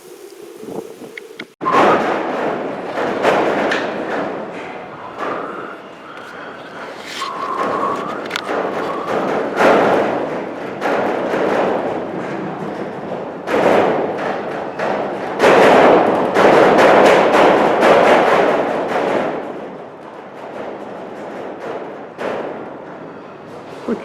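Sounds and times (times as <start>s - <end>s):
gusty wind buffeting microphone: 0.0s - 23.0s.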